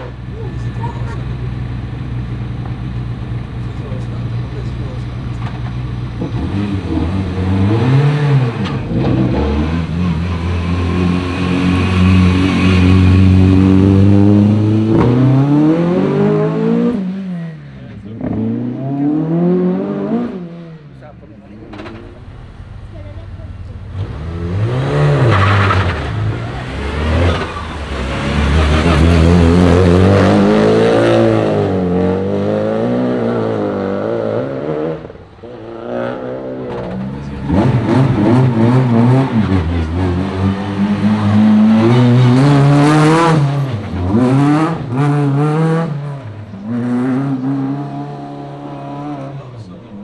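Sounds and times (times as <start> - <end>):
rally car engines revving: 0.0 - 50.0.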